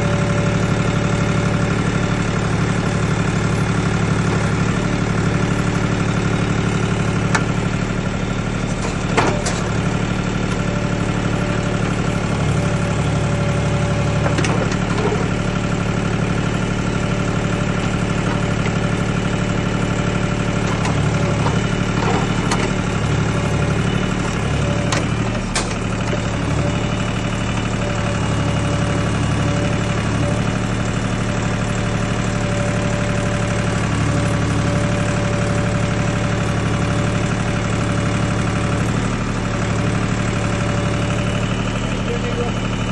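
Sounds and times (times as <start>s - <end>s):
backhoe engine running: 0.0s - 42.9s.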